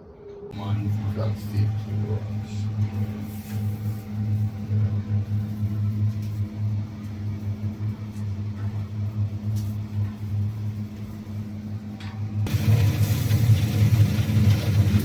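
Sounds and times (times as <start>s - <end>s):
electric fan humming: 0.5s - 15.0s.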